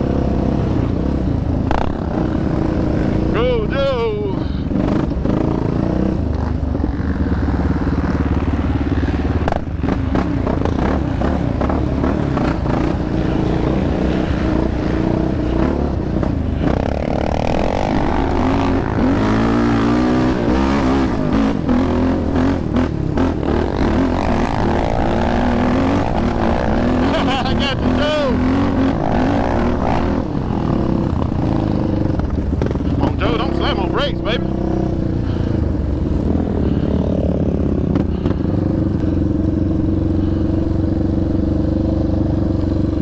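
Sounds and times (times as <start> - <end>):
quad engine revving: 0.0 - 43.0.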